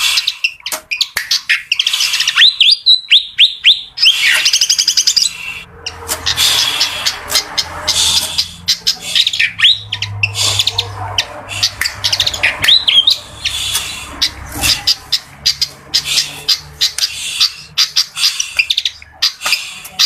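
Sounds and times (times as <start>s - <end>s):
bird singing squeaky chirps: 0.0s - 20.0s.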